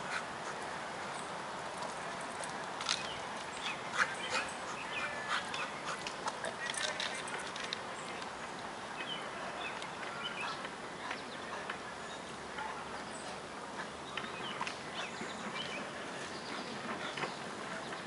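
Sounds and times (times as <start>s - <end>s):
steady outdoor hiss: 0.0s - 18.0s
birds chirping: 2.8s - 7.2s, 7.9s - 18.0s.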